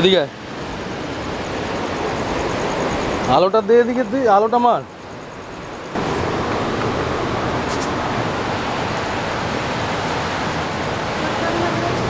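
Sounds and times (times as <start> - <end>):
sea surf rushing: 0.0 - 12.0.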